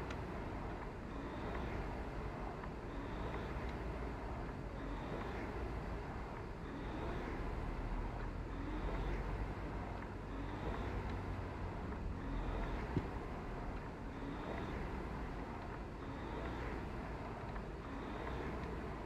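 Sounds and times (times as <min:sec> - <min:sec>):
rowing machine flywheel whirring: 0:00.0 - 0:19.0.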